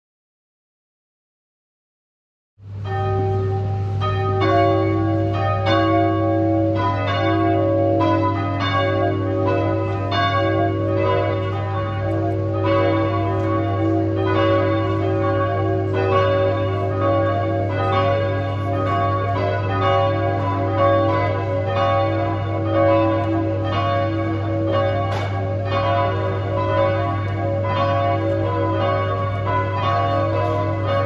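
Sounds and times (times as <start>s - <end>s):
church bells ringing: 2.7s - 31.0s.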